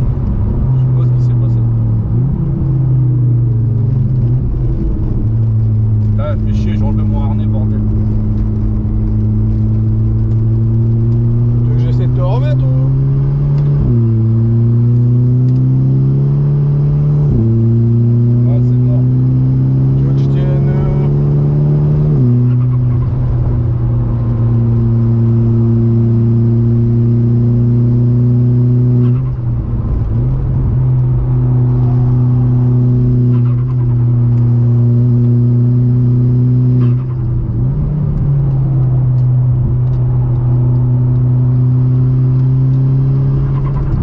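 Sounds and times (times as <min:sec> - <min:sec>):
car engine running: 0:00.0 - 0:44.0.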